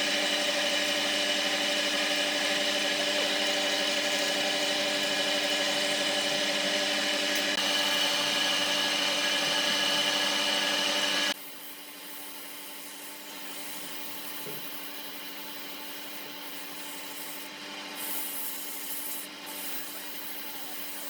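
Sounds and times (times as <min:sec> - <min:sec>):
power tool whirring: 0:00.0 - 0:21.0.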